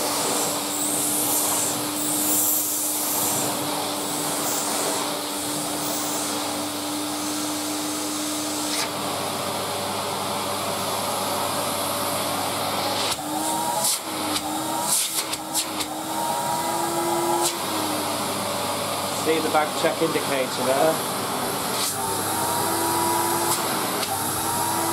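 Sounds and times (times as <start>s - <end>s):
vacuum cleaner motor running: 0.0s - 24.9s.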